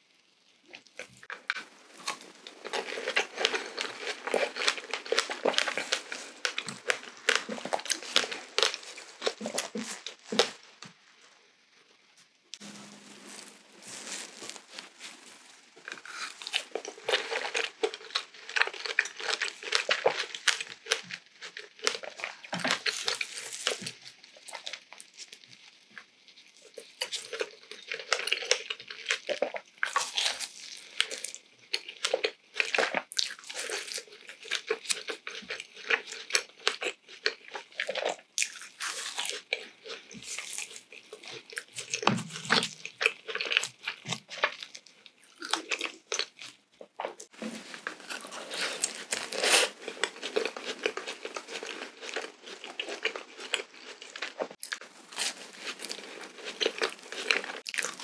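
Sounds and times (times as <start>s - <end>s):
person biting and chewing food: 0.7s - 11.0s, 12.6s - 25.5s, 26.6s - 58.0s.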